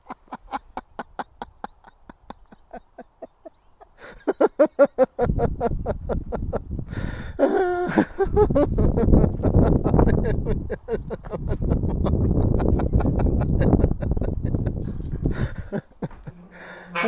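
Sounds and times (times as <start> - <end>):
man laughing in rapid pulses: 0.0 - 16.4.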